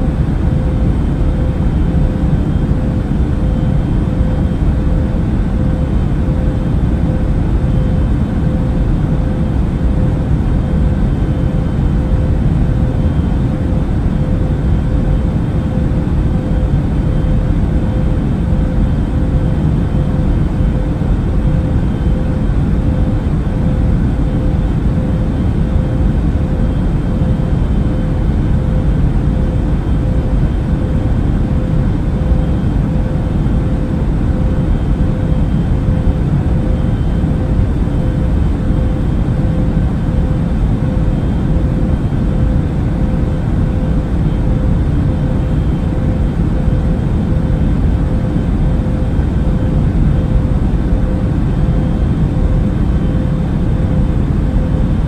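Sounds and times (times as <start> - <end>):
airplane cabin noise: 0.0 - 55.0.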